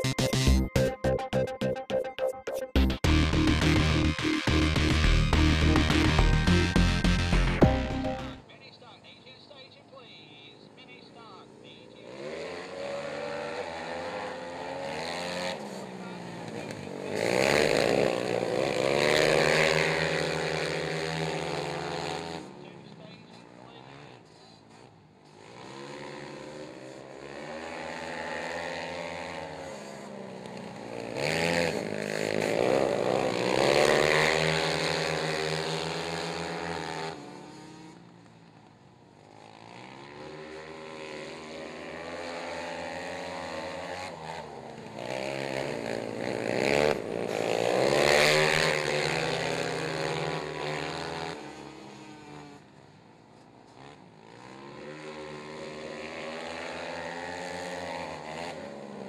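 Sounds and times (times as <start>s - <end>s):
quad engines revving: 2.8s - 59.0s.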